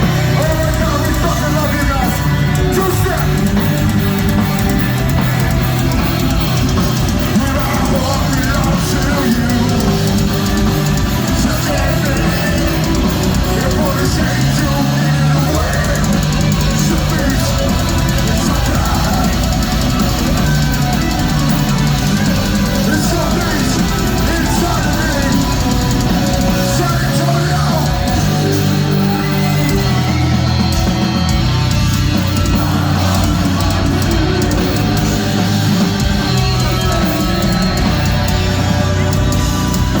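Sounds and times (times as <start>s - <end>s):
bass guitar: 0.0s - 40.0s
distorted guitars: 0.0s - 40.0s
fast drumming: 0.0s - 40.0s.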